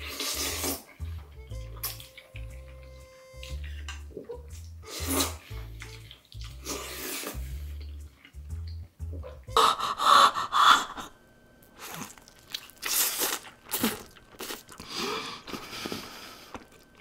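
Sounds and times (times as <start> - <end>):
wet chewing and crunching: 0.0 - 8.8, 11.6 - 17.0.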